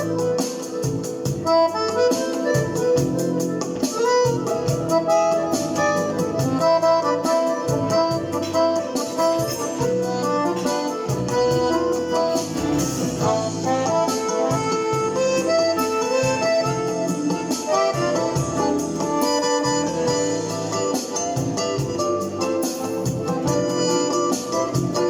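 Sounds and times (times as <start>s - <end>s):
accordion melody: 0.0s - 25.0s
bass: 0.0s - 25.0s
drum beat: 0.0s - 25.0s.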